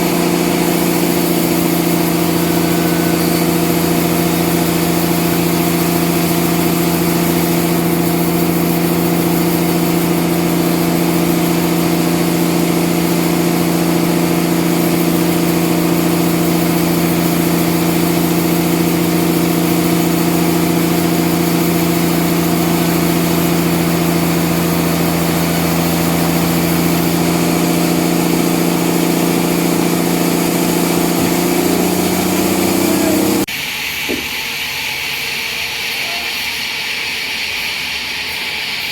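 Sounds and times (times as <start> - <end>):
sawmill machinery engine drone: 0.0 - 38.9.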